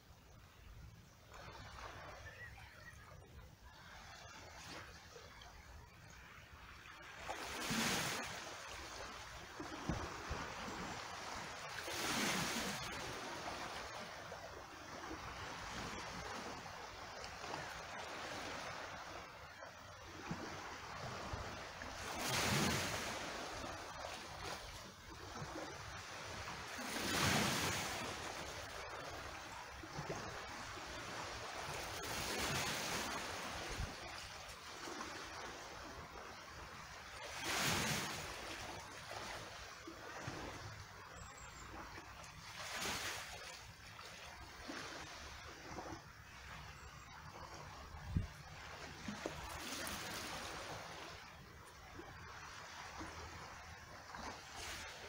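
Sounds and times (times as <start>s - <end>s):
water trickling and splashing: 1.0s - 55.0s
small waves washing over rocky shore: 1.3s - 55.0s.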